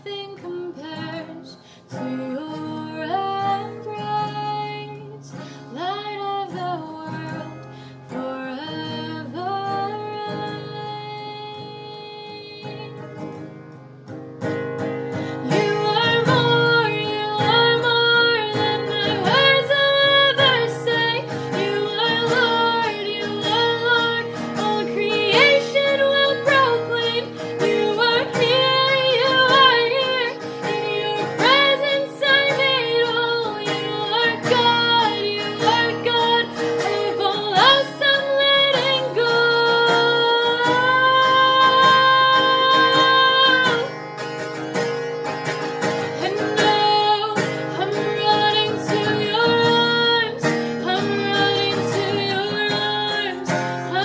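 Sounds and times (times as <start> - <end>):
guitar accompaniment: 0.0 - 54.0.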